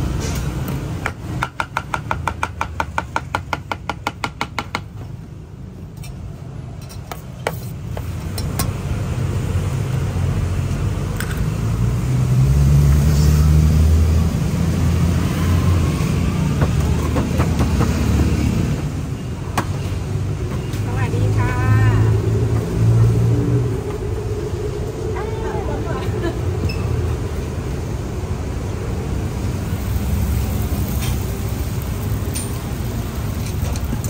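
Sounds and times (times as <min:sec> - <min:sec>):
street traffic rumble: 0:00.0 - 0:34.0.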